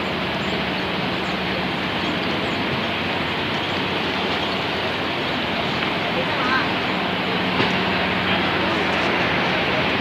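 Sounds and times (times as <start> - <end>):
moving vehicle rumble and hiss: 0.0 - 10.0.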